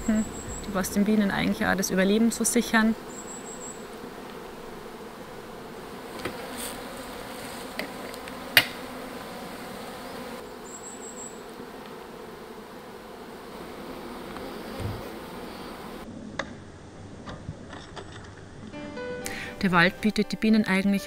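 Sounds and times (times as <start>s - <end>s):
honeybees humming: 0.0s - 17.2s, 18.7s - 21.0s.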